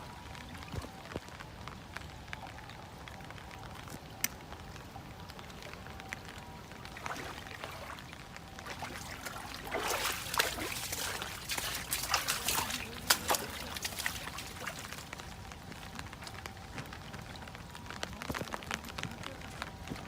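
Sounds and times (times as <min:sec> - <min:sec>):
floodwater running and trickling: 0:00.0 - 0:20.0.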